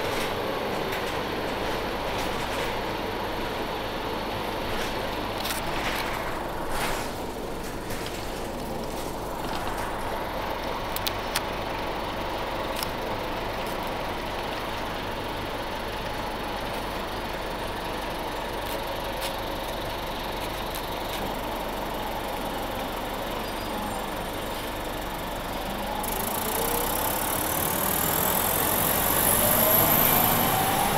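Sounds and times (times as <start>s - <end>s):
diesel bus engine whining: 0.0s - 30.9s.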